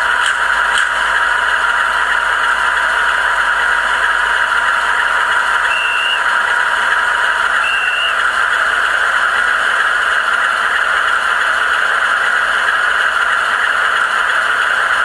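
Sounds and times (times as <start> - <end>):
diesel engine idle through small speaker: 0.0 - 15.0.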